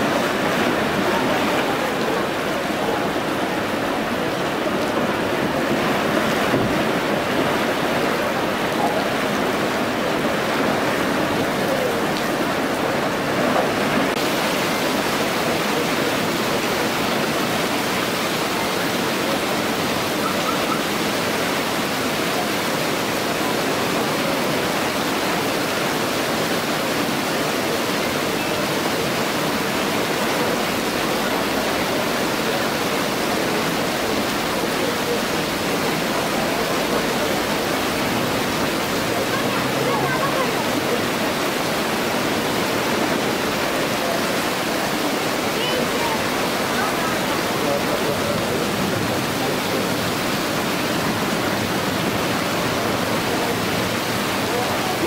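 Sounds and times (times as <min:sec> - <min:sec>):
heavy rain on pavement: 0:00.0 - 0:55.0
storm drains gushing water: 0:00.0 - 0:55.0.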